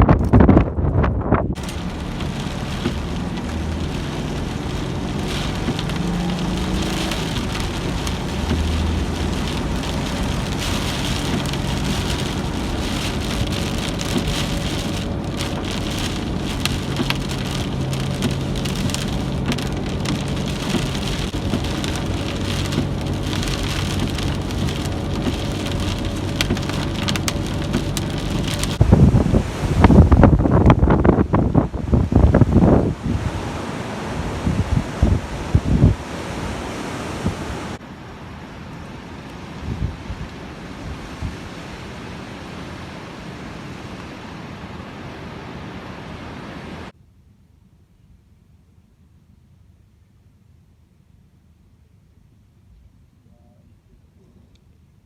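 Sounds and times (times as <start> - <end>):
steady rain falling: 1.6 - 47.0.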